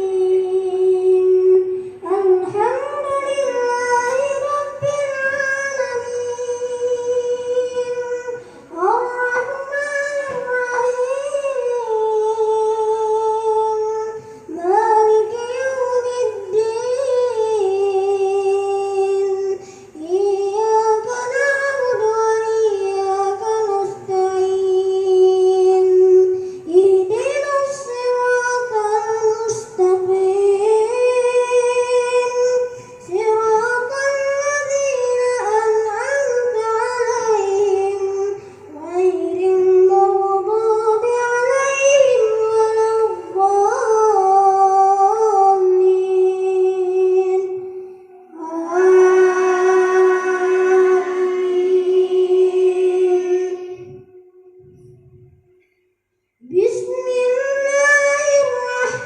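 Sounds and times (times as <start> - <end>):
boy chanting recitation: 0.0 - 55.7, 56.4 - 59.0.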